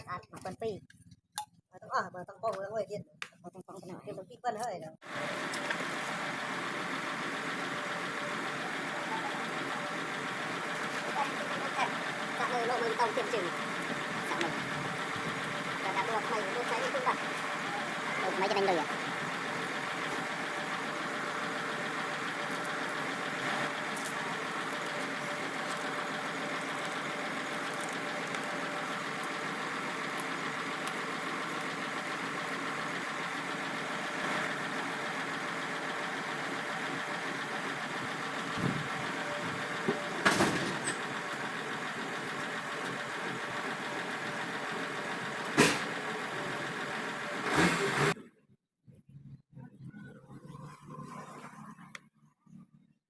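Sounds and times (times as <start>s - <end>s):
diesel tractor engine idling: 5.0s - 48.2s.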